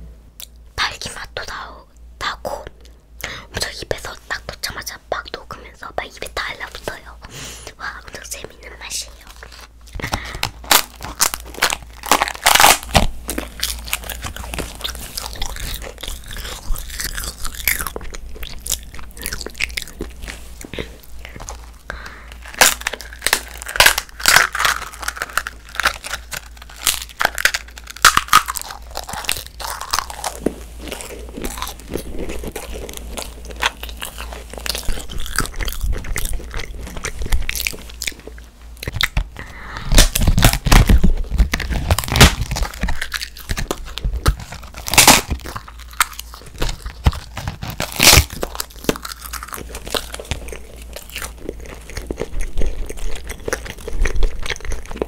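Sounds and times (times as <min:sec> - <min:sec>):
crunchy biting and chewing: 0:09.3 - 0:55.0.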